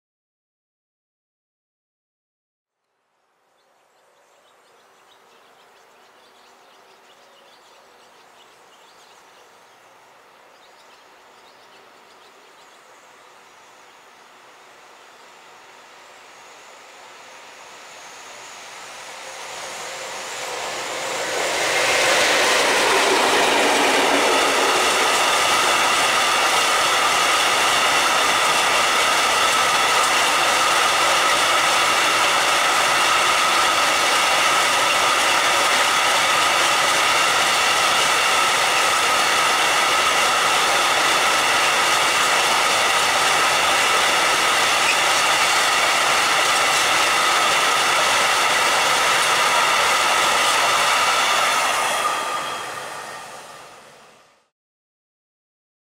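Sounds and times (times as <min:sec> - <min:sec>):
electric locomotive passing: 0:03.3 - 0:54.5.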